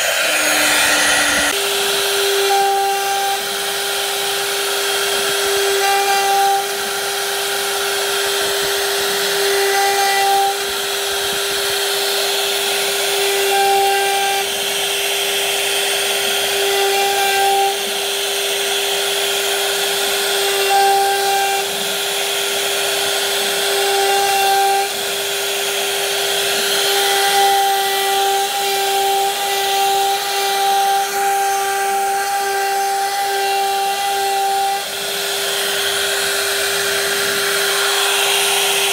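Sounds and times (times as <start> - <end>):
router spindle high whine: 0.0 - 38.9
wood cutting hiss: 0.0 - 38.9.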